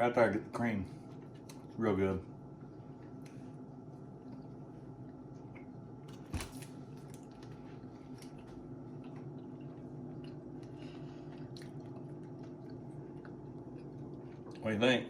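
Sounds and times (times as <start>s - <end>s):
low steady hum: 0.0s - 15.0s
faint chewing: 1.0s - 1.8s, 2.6s - 14.8s.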